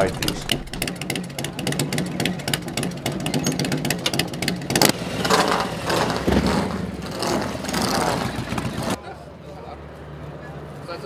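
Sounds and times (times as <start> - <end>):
motorcycle engine running: 0.0 - 9.0
motorcycle passing by: 0.0 - 11.0.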